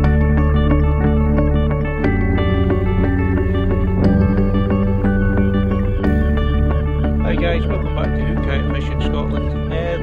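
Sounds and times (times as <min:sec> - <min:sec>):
instrumental music with held notes: 0:00.0 - 0:10.0.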